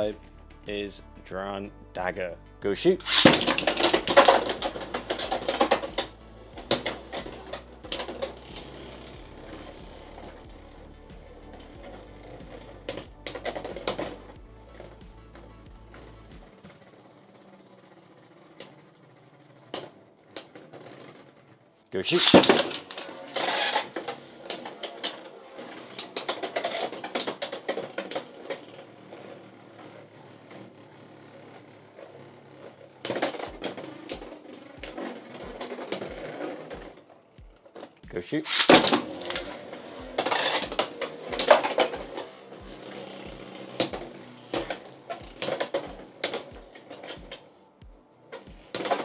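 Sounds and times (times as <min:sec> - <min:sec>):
spinning tops rattling: 0:03.0 - 0:47.6, 0:48.3 - 0:49.0
plastic clacks of spinning tops colliding: 0:03.1 - 0:21.6, 0:22.2 - 0:30.0, 0:32.6 - 0:47.5, 0:48.3 - 0:49.0.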